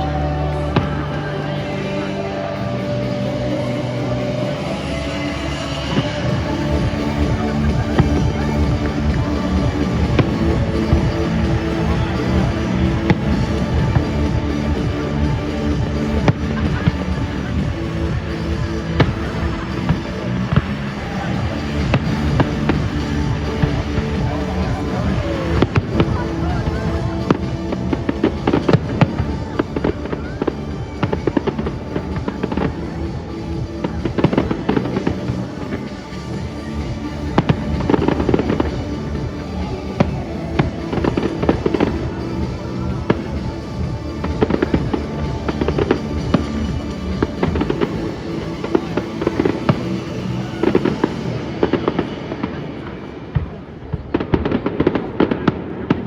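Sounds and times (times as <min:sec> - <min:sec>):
fireworks bangs and crackles: 0:00.0 - 0:56.0
music with sustained notes: 0:00.0 - 0:56.0.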